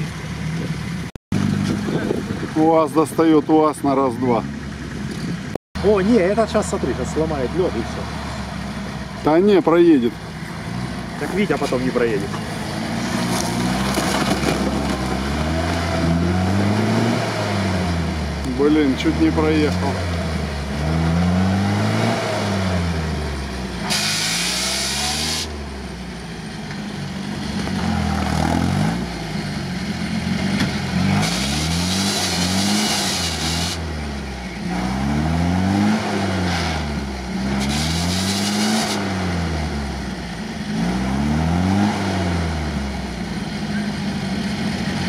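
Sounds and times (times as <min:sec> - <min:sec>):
off-road vehicle engine revving: 0:00.0 - 0:45.0.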